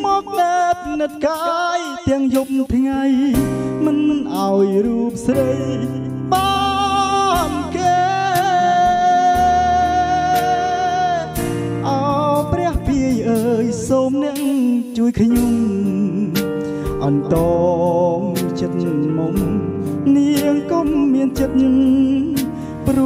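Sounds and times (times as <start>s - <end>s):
backing music: 0.0s - 23.0s
man singing into microphone: 0.0s - 23.0s.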